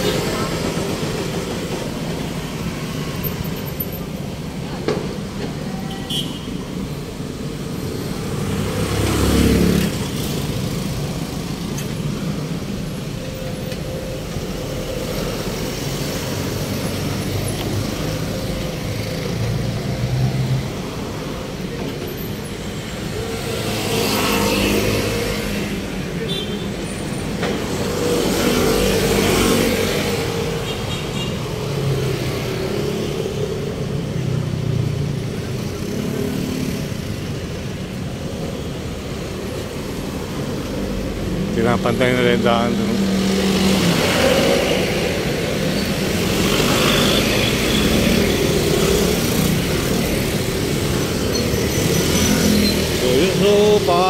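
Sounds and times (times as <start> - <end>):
louder vehicles passing: 0.0 - 54.0
tyres on road: 0.0 - 54.0.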